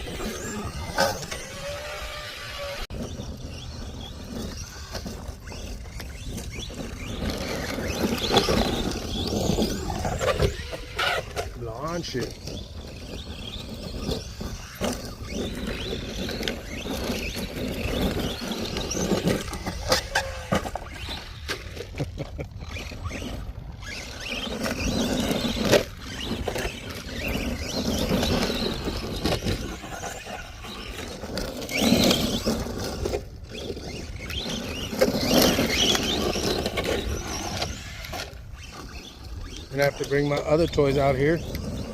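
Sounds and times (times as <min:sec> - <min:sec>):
rc car motor and tyres on gravel: 0:00.0 - 0:41.9.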